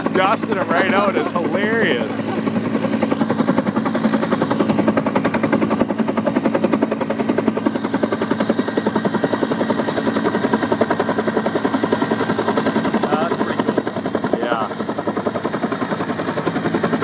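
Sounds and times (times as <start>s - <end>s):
helicopter engine hum: 0.0s - 17.0s
helicopter rotor chop: 0.0s - 17.0s.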